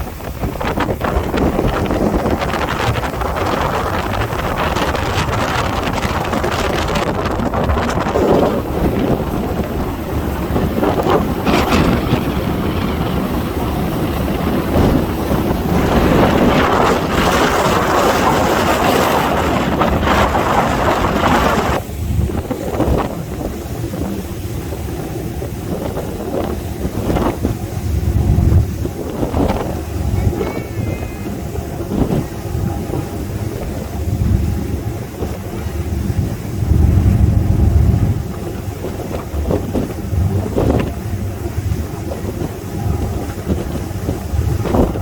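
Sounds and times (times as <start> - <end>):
boat rushing through water: 0.0 - 45.0
wind buffeting microphone: 0.0 - 45.0.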